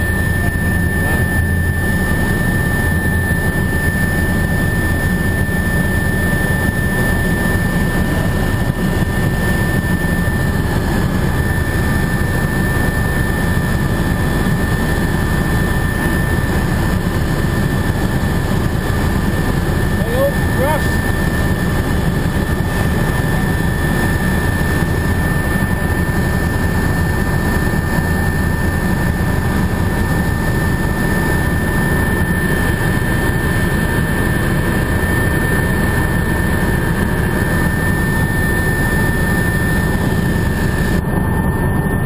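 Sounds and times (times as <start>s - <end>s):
helicopter cabin rumble: 0.0s - 42.0s
helicopter high whine: 0.0s - 42.0s.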